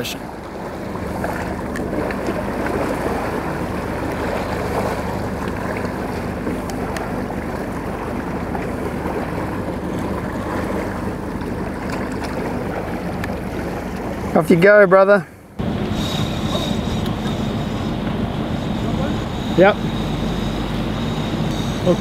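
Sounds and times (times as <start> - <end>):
boat engine running: 0.0 - 22.0
water splashing along hull: 0.0 - 22.0.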